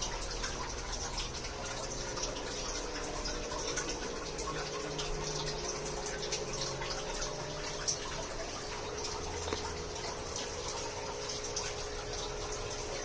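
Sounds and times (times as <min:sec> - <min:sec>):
faint steady hum: 0:00.0 - 0:13.0
small drips and splashes: 0:00.0 - 0:13.0
water bubbling in aquarium: 0:00.0 - 0:13.0.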